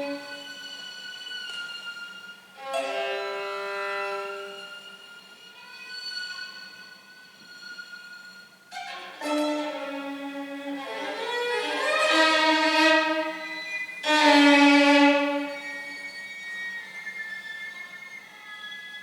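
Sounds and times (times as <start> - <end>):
slow violin melody: 0.0 - 19.0.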